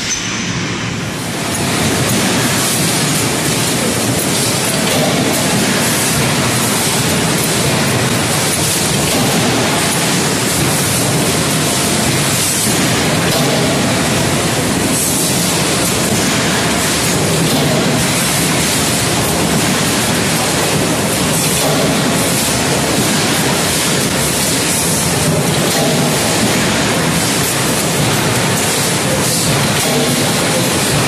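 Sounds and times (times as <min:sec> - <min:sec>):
factory machinery humming: 0:00.0 - 0:31.0.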